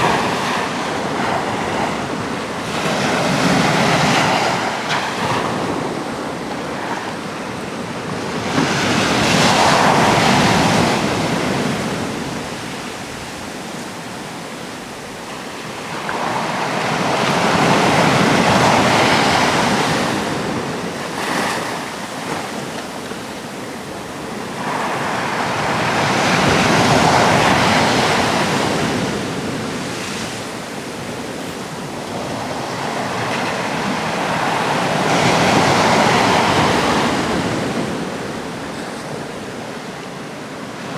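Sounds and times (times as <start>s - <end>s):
surf waves crashing on shore: 0.0s - 40.9s.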